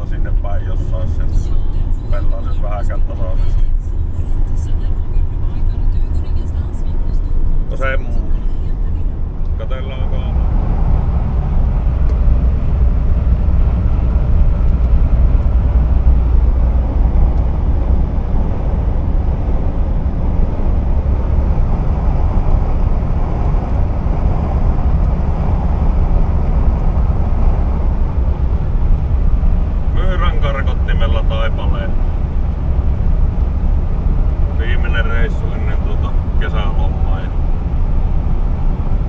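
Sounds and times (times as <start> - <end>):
truck engine and tyre drone: 0.0 - 39.0.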